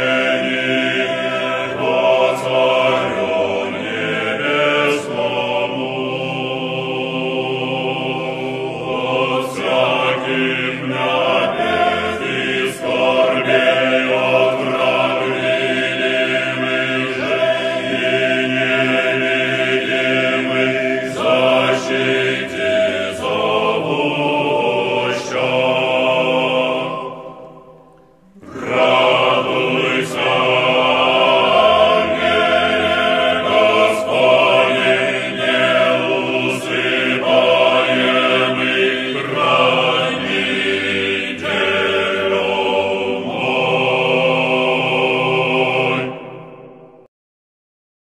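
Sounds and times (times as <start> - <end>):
choir singing a slow chant: 0.0 - 47.1.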